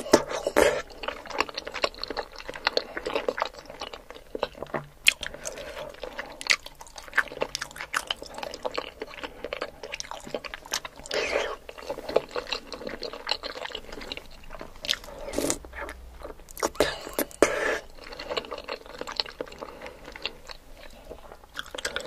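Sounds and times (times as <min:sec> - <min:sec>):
wet chewing sounds: 0:00.0 - 0:22.0.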